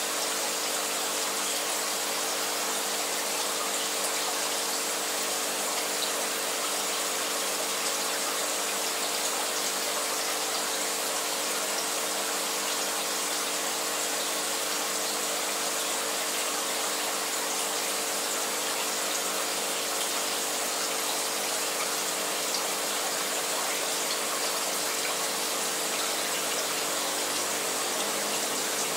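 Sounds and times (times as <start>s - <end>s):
aquarium pump hum: 0.0s - 28.9s
rush of moving water: 0.0s - 28.9s.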